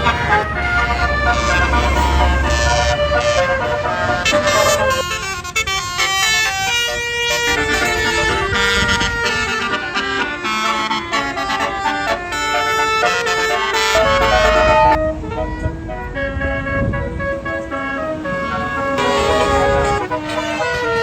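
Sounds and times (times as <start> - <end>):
bus engine rumbling: 0.0 - 21.0
bus horn melody: 0.0 - 21.0.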